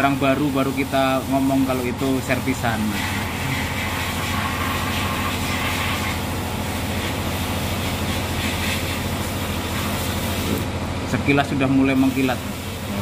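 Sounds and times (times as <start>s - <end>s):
sandblasting air hiss: 0.0s - 10.7s, 11.8s - 13.0s.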